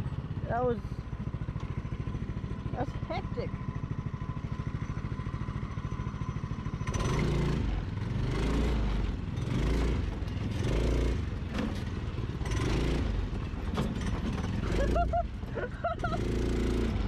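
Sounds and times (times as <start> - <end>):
buggy engine idling and revving: 0.0 - 17.0.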